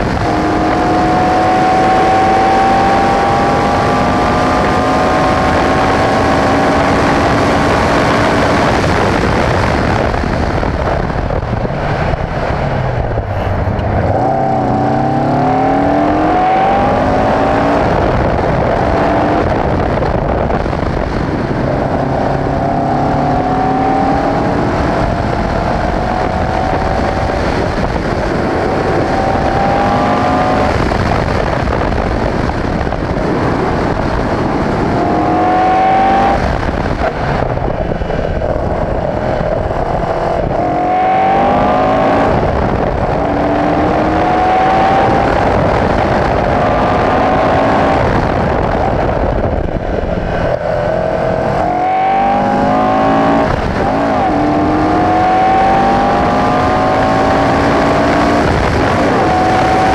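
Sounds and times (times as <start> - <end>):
race car engine accelerating: 0.0 - 59.9
rush of air noise: 0.0 - 59.9.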